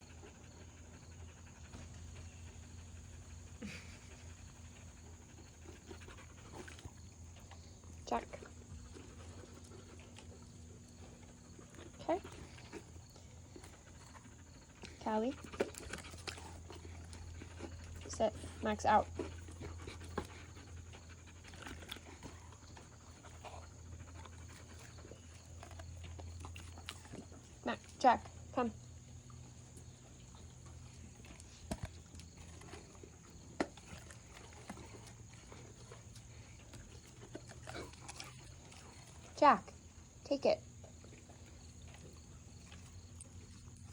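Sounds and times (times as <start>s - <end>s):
dogs panting softly: 0.0s - 43.9s.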